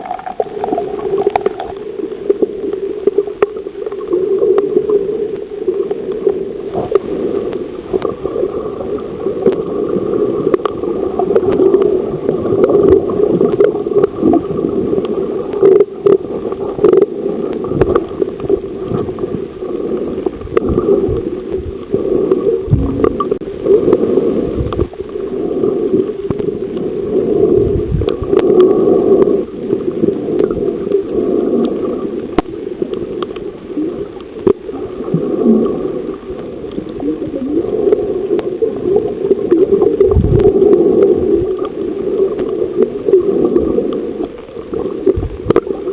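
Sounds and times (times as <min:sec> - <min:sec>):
water sloshing and gurgling: 0:00.0 - 0:45.9.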